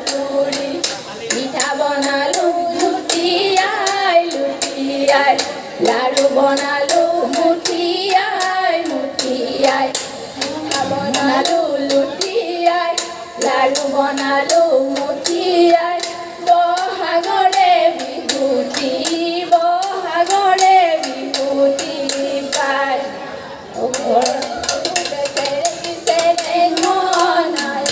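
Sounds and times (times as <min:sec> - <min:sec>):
rhythmic hand-clapping: 0:00.0 - 0:23.0, 0:23.8 - 0:27.9
women singing into microphones: 0:00.0 - 0:27.9.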